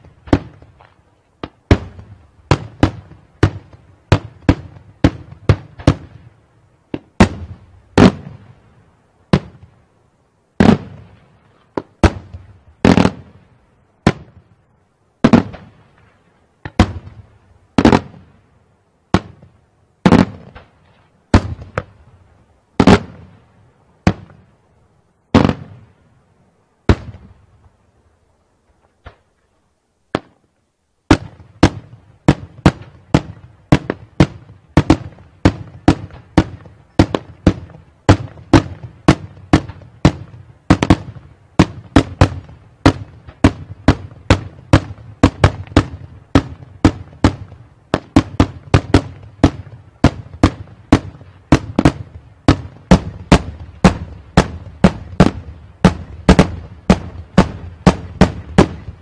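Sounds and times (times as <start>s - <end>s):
fireworks bangs: 0.0s - 8.7s, 9.3s - 9.8s, 10.6s - 14.6s, 15.2s - 18.4s, 19.1s - 22.2s, 22.8s - 24.5s, 25.3s - 26.0s, 26.8s - 27.6s, 31.1s - 59.0s.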